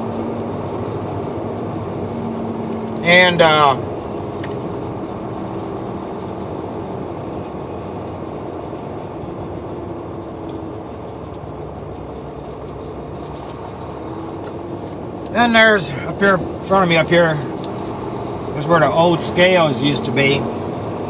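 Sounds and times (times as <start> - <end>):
road noise: 0.0 - 21.0
truck engine running: 0.0 - 21.0.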